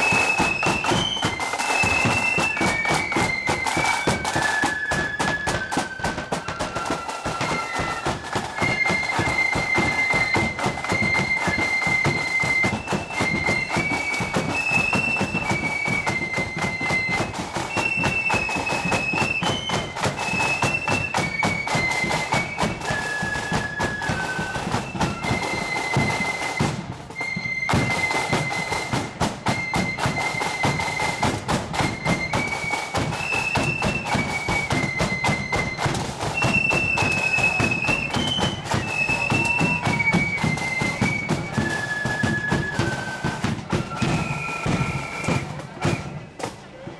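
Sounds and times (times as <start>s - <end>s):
rapid snare drumming: 0.0s - 46.7s
shrill flutes playing melody: 0.0s - 46.9s.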